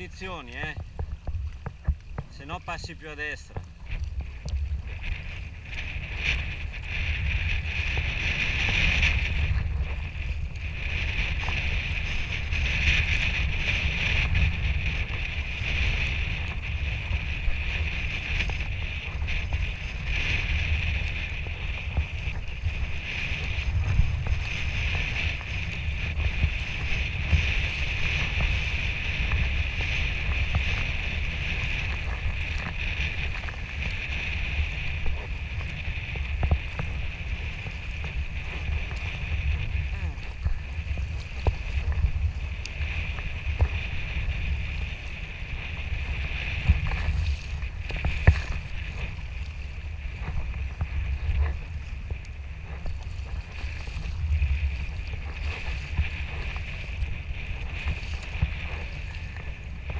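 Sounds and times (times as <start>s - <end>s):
paddle and water hiss: 0.0s - 59.9s
wind rumble on microphone: 0.0s - 59.9s.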